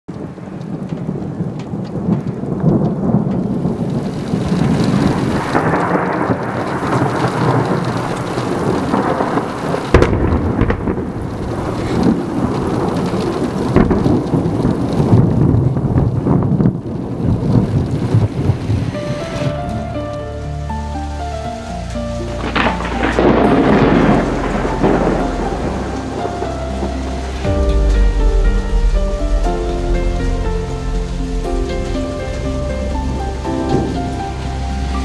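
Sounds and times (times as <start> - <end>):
sharp thunderclap: 0.1 - 19.8, 22.4 - 35.0
rolling thunder: 0.1 - 35.0
steady rain: 0.1 - 35.0.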